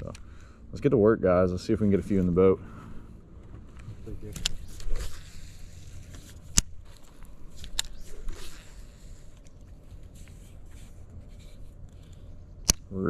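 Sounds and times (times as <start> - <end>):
faint scraping and rustling: 0.8 - 12.6.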